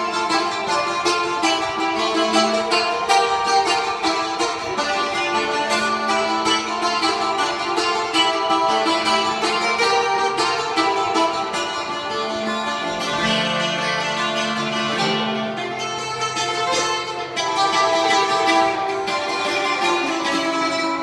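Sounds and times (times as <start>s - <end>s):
bouzoukis playing: 0.0s - 21.0s.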